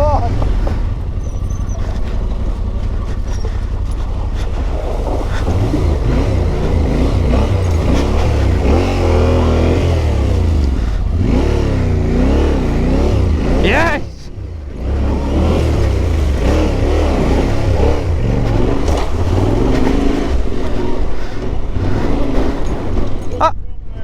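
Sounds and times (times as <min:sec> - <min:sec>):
motorcycle engine revving: 0:00.0 - 0:23.3.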